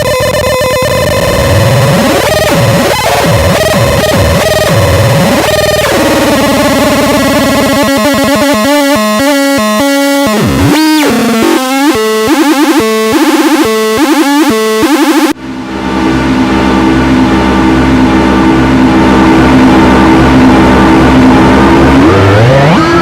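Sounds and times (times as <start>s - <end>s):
fast stuttering synth pulse: 0.0s - 23.0s
harsh buzzing synth drone: 0.0s - 23.0s.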